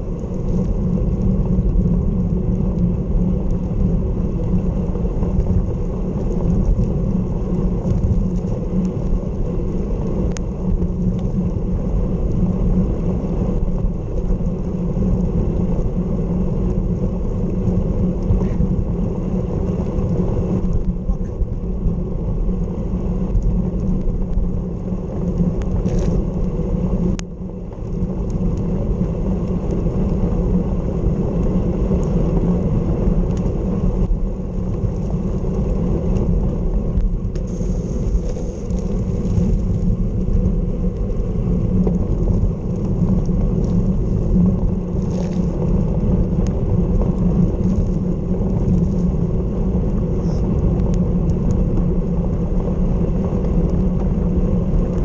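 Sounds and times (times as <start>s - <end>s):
tyre noise on wet tarmac: 0.0s - 55.0s
wind rumble on microphone: 0.0s - 55.0s.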